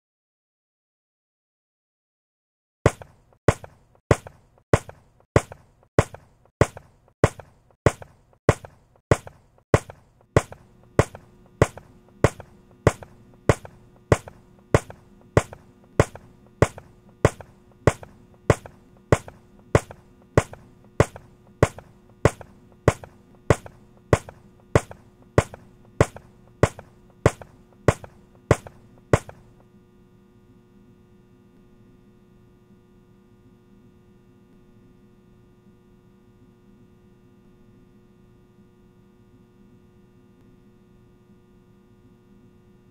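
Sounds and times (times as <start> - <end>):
low steady hum: 3.0 - 42.9.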